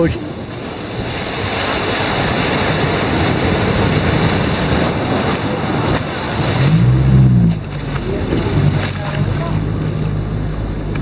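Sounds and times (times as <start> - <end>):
motorboat motor drone: 0.0 - 11.0
wind and churning water rushing: 0.0 - 11.0.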